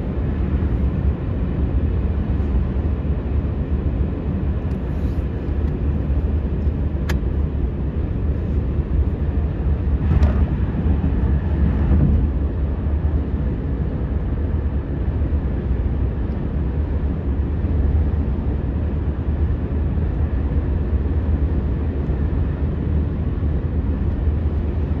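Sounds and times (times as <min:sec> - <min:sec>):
vehicle rumble inside cabin: 0:00.0 - 0:25.0.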